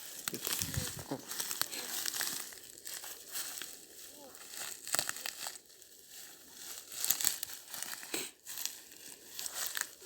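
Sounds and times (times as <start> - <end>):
footsteps on dry pine needles: 0.0 - 10.0.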